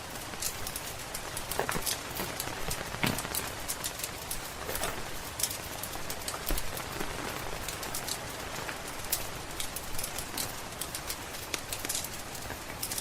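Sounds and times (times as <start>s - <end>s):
steady rain hiss: 0.0s - 13.0s
wood fire crackling and popping: 0.0s - 13.0s.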